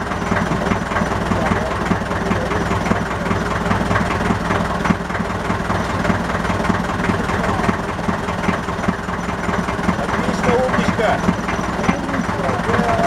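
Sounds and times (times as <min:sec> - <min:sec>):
motorboat engine idling: 0:00.0 - 0:13.0.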